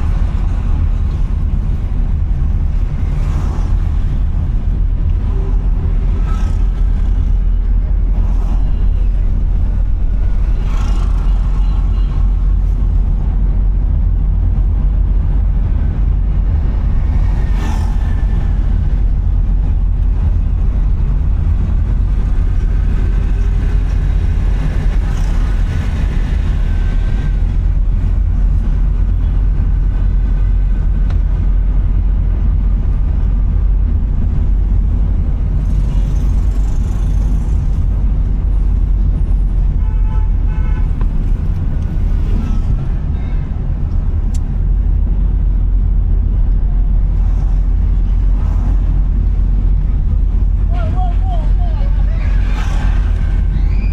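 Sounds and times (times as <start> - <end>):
car engine and road noise: 0.0 - 53.9
passing traffic: 0.0 - 53.9.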